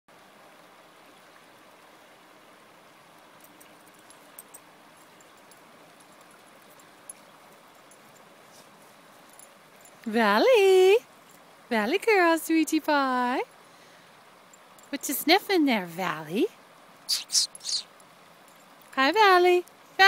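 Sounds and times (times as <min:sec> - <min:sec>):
flowing river rushing: 0:00.1 - 0:20.0.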